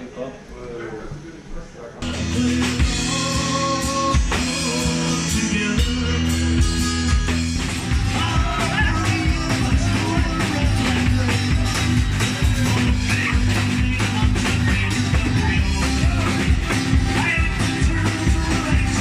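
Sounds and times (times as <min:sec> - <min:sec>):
man singing: 0:02.0 - 0:07.0, 0:07.9 - 0:19.0
drum kit beat: 0:02.0 - 0:19.0
rock guitar: 0:02.0 - 0:19.0.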